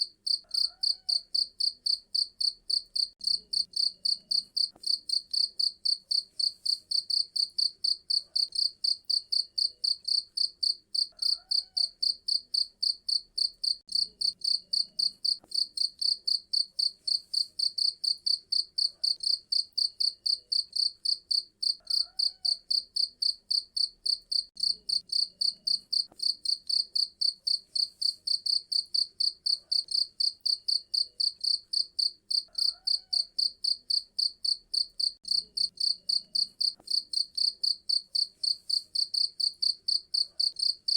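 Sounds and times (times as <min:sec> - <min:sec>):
cricket chirping: 0:00.2 - 0:40.9.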